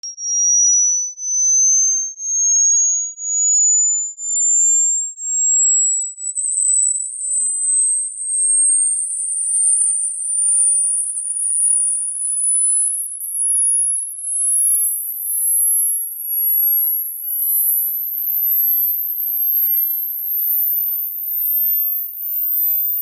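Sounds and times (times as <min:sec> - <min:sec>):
high-pitched test tone rising: 0:00.4 - 0:03.9, 0:06.4 - 0:23.0.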